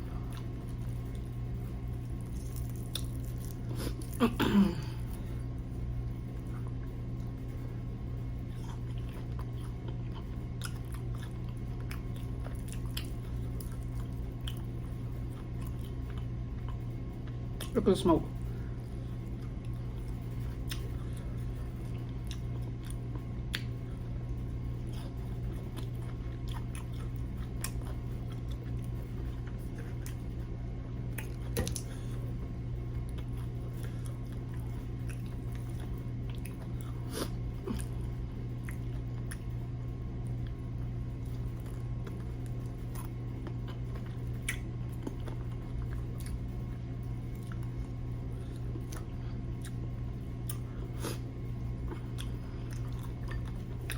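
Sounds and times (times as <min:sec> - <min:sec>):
person chewing crunchy chicken: 0:00.0 - 0:17.8, 0:18.9 - 0:53.9
steady low hum: 0:00.0 - 0:53.9.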